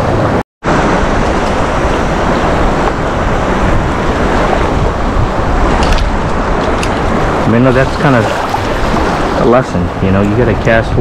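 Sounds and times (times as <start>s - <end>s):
wind on microphone: 0.0s - 11.0s
small surf waves: 0.1s - 11.0s.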